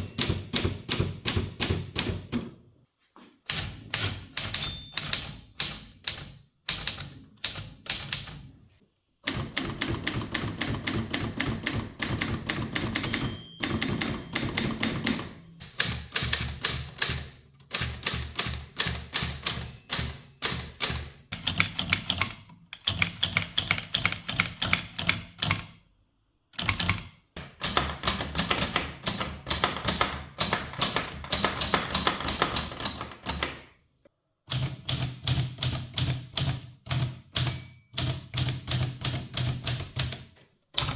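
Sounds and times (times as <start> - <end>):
typewriter keys striking: 3.5 - 8.5, 9.3 - 25.7, 26.6 - 33.6, 34.5 - 40.9.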